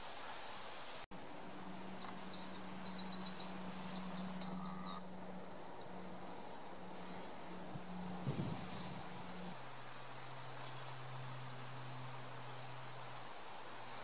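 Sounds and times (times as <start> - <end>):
low steady hum: 1.1 - 14.0
songbird chirping: 1.4 - 8.0, 8.6 - 14.0.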